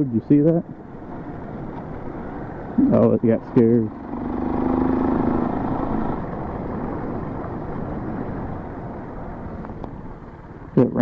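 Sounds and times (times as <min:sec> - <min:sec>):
motorcycle engine running: 0:00.7 - 0:11.0.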